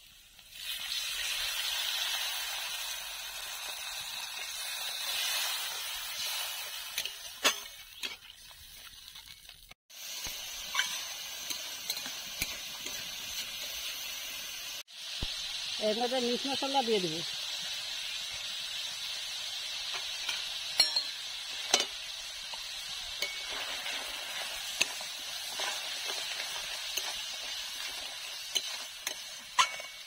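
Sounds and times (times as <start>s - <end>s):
curry sizzling and bubbling: 0.0s - 30.0s
water hissing in hot wok: 0.0s - 30.0s.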